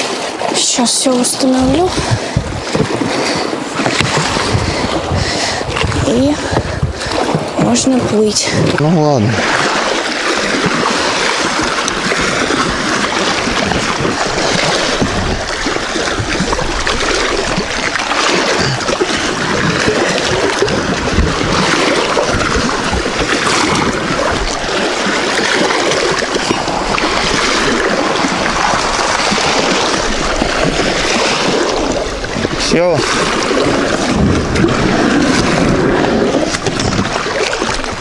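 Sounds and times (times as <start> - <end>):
waves splashing: 0.0 - 38.0
wind rumbling on microphone: 0.0 - 38.0.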